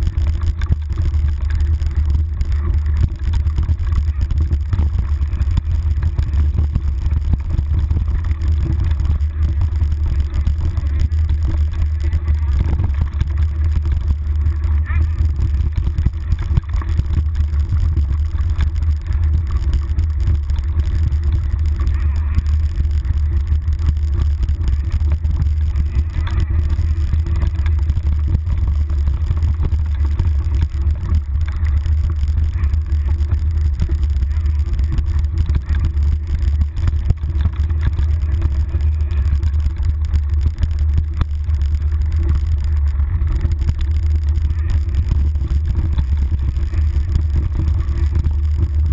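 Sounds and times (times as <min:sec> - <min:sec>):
bike clicks and rattles: 0:00.0 - 0:48.9
wind rumble: 0:00.0 - 0:48.9.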